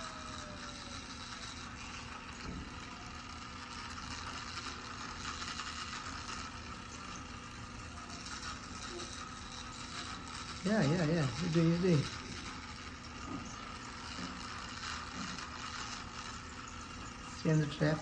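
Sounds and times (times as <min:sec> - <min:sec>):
toy car motor whir: 0:00.0 - 0:18.0
wheels rattling over plastic track: 0:00.0 - 0:18.0.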